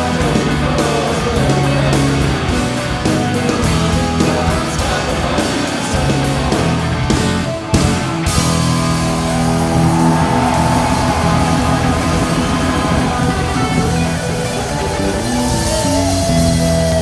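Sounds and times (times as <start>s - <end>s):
electric guitar: 0.0s - 17.0s
rock band playing live: 0.0s - 17.0s.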